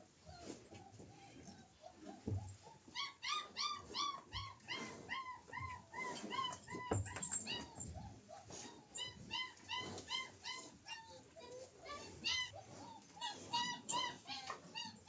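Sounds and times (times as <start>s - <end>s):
dog yelping: 2.5s - 15.0s.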